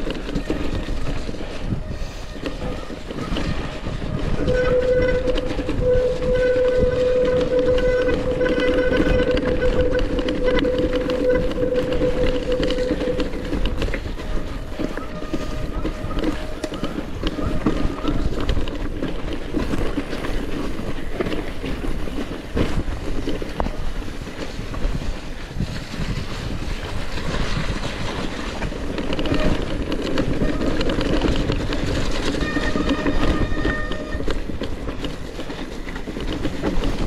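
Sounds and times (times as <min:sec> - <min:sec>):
mountain bike rattling over rough ground: 0:00.0 - 0:37.0.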